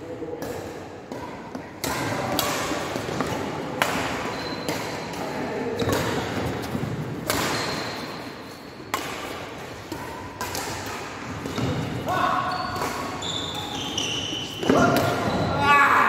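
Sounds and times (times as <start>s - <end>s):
racket hitting shuttlecock: 0.4s - 15.3s.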